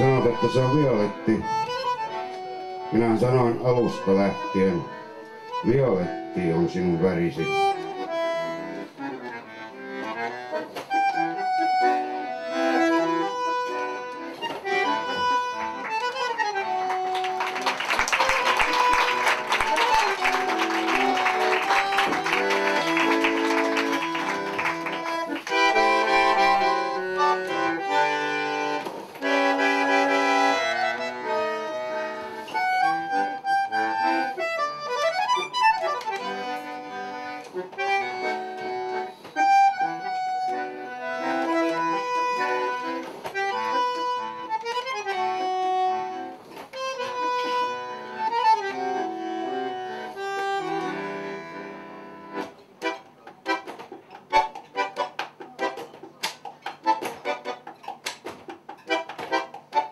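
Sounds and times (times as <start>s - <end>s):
bandoneon melody over chords: 0.0s - 59.9s.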